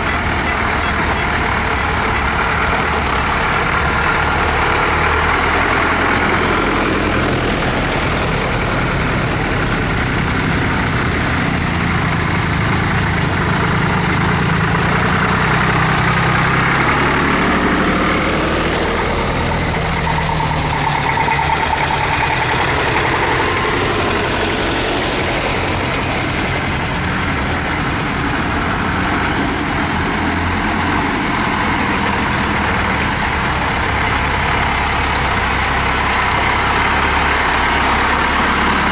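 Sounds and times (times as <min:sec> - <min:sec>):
tractor engines running: 0:00.0 - 0:38.9.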